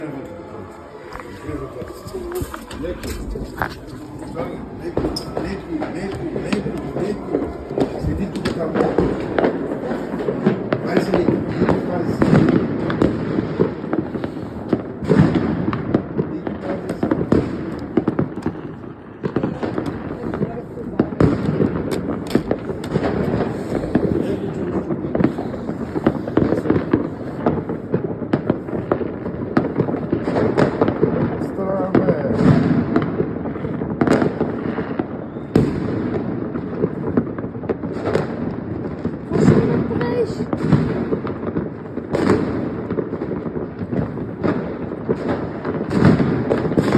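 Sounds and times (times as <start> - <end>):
fireworks cracks and bangs: 0.0 - 46.9
heavy firework booms: 0.0 - 46.9.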